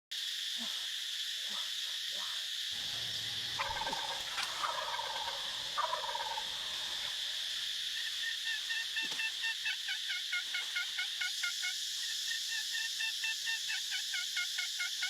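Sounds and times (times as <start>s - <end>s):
insects droning: 0.1s - 15.0s
turkey gobbling: 2.8s - 15.0s.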